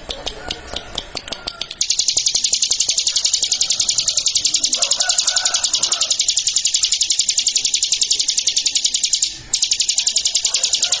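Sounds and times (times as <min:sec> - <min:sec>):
bird singing rapid high trill: 0:01.8 - 0:11.0.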